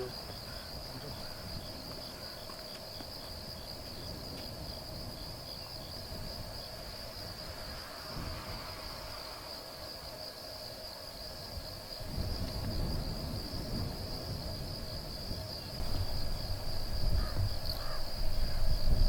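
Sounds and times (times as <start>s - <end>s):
insects trilling: 0.0s - 19.0s
low wind rumble: 0.0s - 19.0s.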